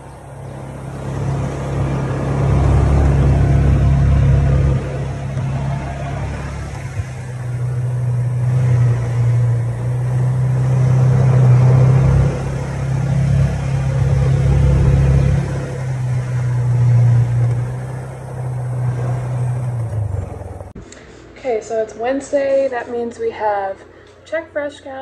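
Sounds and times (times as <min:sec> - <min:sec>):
vehicle engine drone: 0:00.0 - 0:20.8
road noise: 0:00.0 - 0:23.5.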